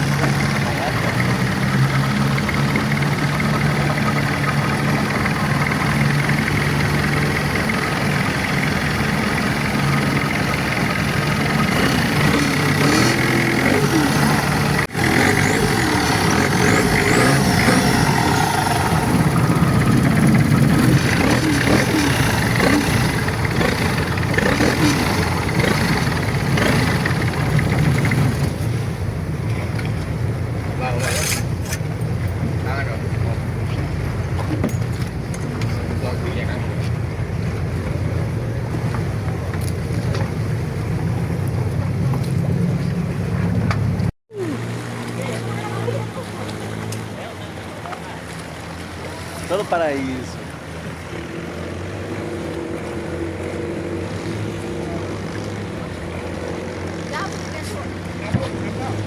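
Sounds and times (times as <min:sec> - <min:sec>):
boat engine humming: 0:00.0 - 0:59.0
rushing wind and water: 0:00.0 - 0:59.0.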